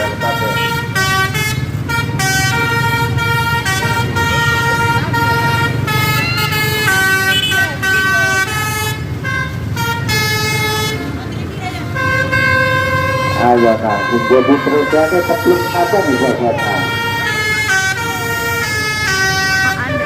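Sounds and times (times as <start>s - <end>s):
low engine rumble: 0.0s - 20.0s
multi-tone bus air horn tune: 0.0s - 20.0s.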